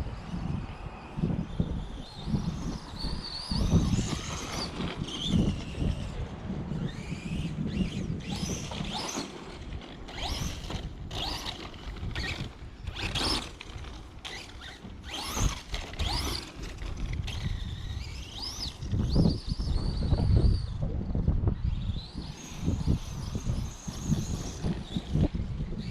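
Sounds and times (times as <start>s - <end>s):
rc truck motor whining: 0.0s - 25.9s.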